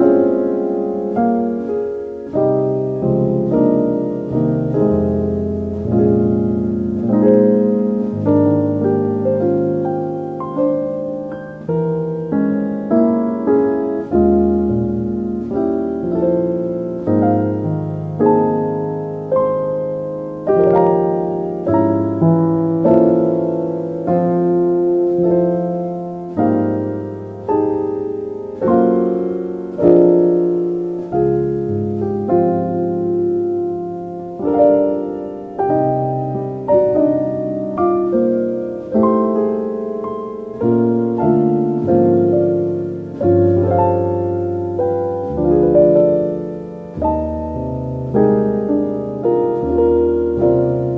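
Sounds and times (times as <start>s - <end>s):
soft solo piano music: 0.0s - 50.9s.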